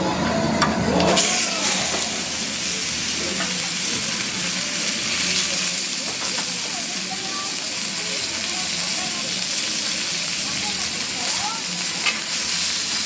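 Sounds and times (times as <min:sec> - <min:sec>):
steak sizzling: 0:00.8 - 0:13.0.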